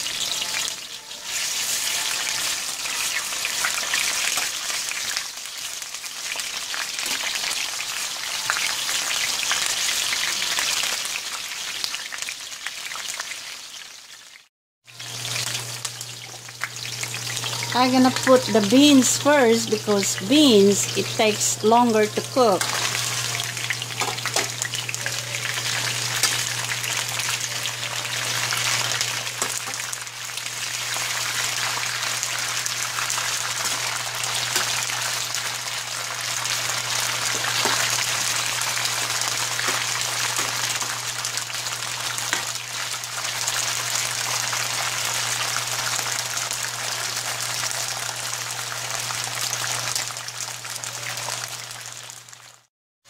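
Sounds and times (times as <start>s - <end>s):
green beans sizzling in oil: 0.0s - 52.7s.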